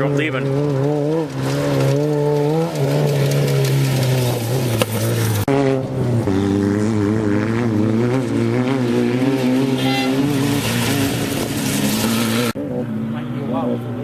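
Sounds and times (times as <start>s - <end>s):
race vehicle engine running: 0.0s - 14.0s.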